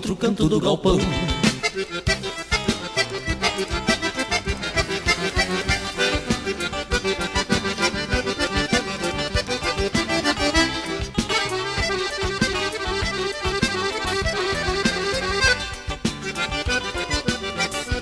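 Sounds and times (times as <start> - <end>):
accordion lead melody: 0.0 - 18.0
band playing dance beat: 0.5 - 18.0.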